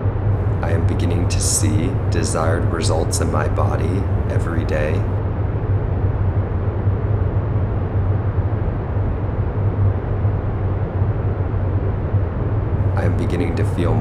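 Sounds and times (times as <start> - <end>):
low rumbling background noise: 0.0 - 14.0
low hum: 0.1 - 14.0.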